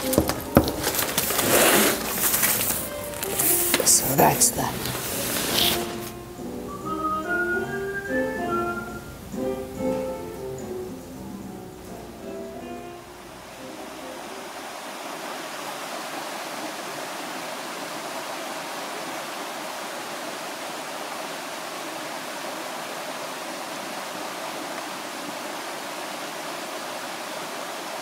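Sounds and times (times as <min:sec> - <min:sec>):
stream flowing over rocks: 0:00.0 - 0:07.6, 0:08.8 - 0:28.0.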